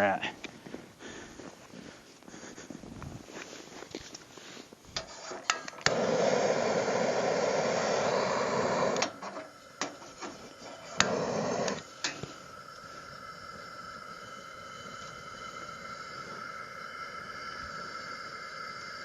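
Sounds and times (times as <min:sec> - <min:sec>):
gas hissing: 0:03.1 - 0:19.0.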